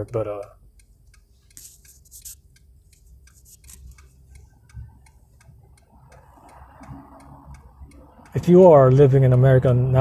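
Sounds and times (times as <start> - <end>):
faint regular ticking: 0.0 - 9.7.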